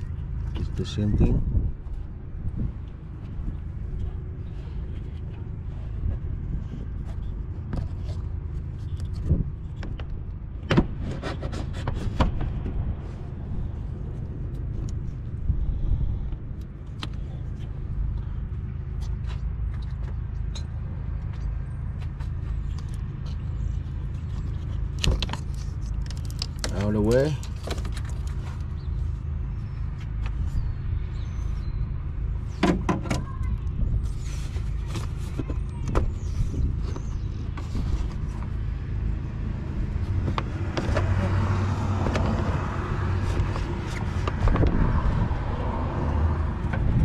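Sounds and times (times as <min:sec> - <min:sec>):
steady low rumble: 0:00.0 - 0:11.1, 0:11.7 - 0:47.0.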